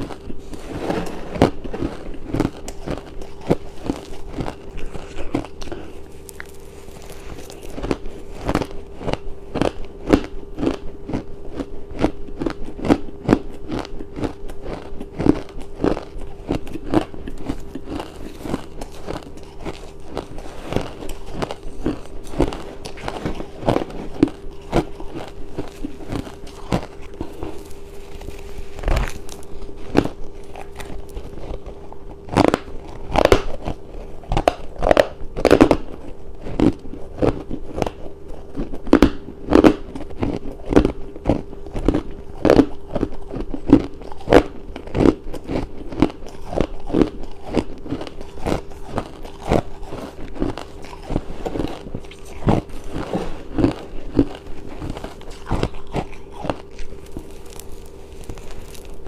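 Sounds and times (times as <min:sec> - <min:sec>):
ice being chewed: 0:00.0 - 0:59.0
steady low hum: 0:00.0 - 0:59.0.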